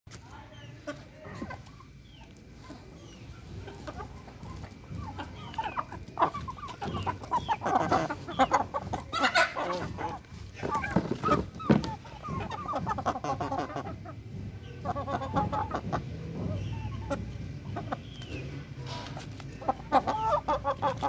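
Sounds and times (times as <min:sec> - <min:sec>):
chickens clucking and calling: 0:00.2 - 0:21.0.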